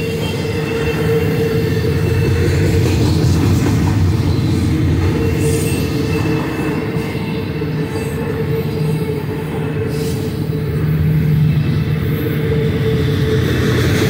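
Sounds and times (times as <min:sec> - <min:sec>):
steel train wheels rumbling on rail: 0:00.0 - 0:14.0.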